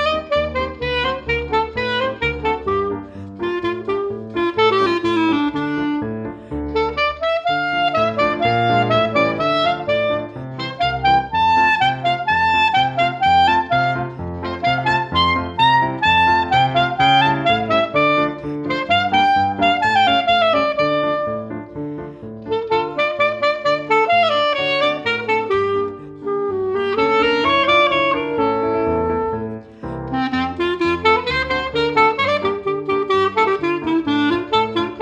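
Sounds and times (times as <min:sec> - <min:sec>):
clarinet melody: 0:00.0 - 0:35.0
piano accompaniment: 0:00.0 - 0:35.0.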